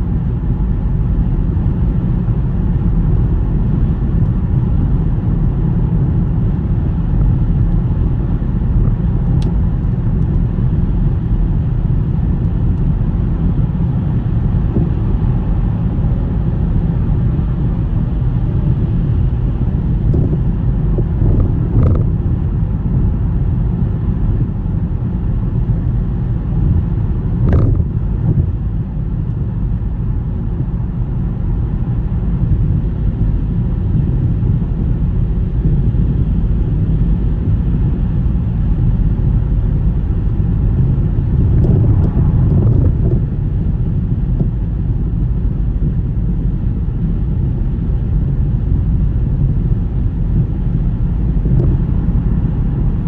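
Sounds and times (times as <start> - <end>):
car tyre road noise: 0.0 - 53.0.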